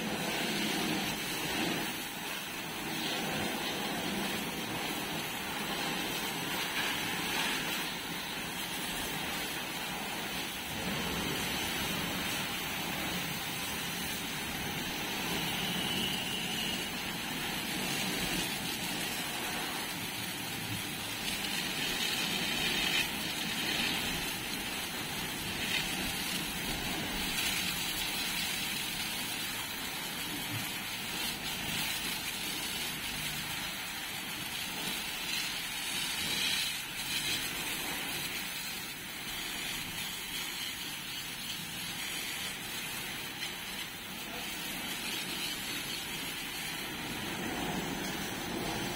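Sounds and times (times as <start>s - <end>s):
pressure washer spraying metal: 0.0s - 48.9s.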